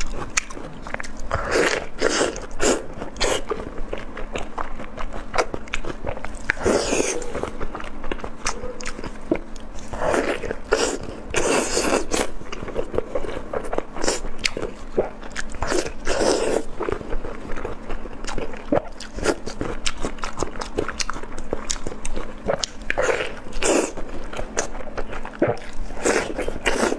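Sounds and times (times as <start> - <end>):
close biting and chewing: 0.0 - 26.9.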